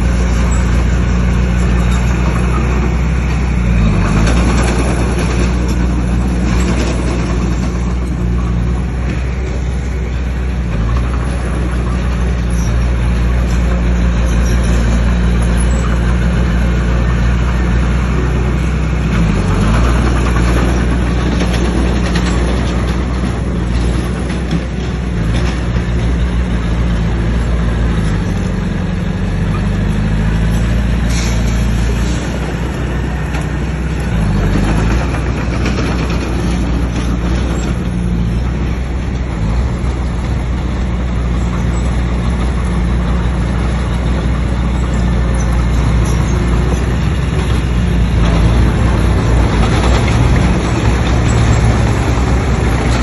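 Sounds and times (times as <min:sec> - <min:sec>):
bulldozer diesel engine under load: 0:00.0 - 0:53.0
rocks and steel tracks clattering: 0:00.0 - 0:53.0.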